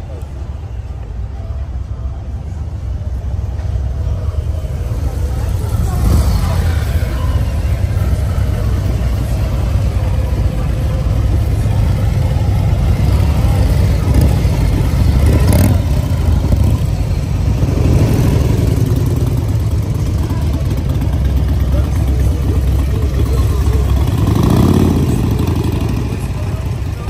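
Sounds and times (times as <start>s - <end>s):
motorcycle engine idling: 2.3s - 27.0s
motorcycle engine revving: 5.1s - 27.0s.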